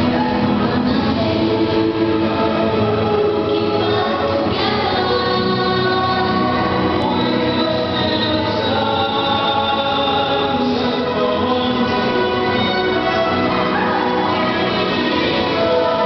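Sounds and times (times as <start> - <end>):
group of voices singing a song: 0.0 - 16.0.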